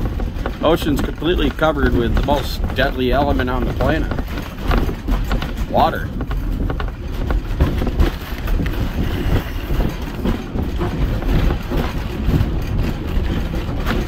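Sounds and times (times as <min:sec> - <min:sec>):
rail car rumbling on track: 0:00.0 - 0:14.0.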